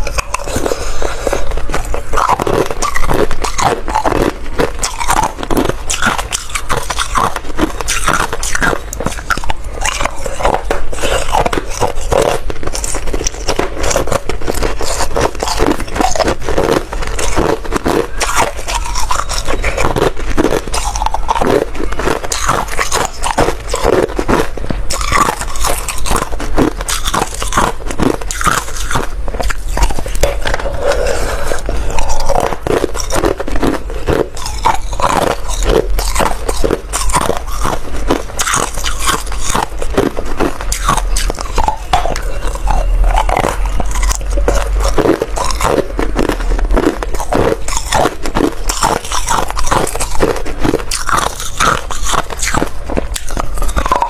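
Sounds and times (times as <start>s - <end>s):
person chewing ice: 0.0s - 54.0s.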